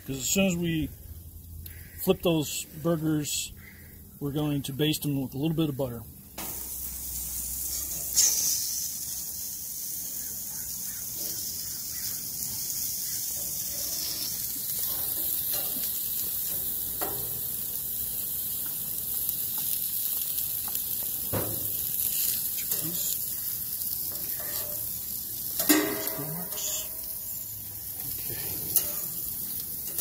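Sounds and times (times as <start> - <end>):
meat sizzling on a grill: 0.0 - 30.0.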